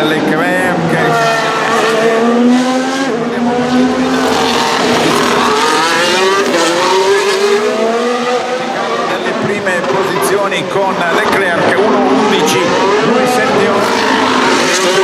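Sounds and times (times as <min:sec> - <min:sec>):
racing car engines revving: 0:00.0 - 0:15.0.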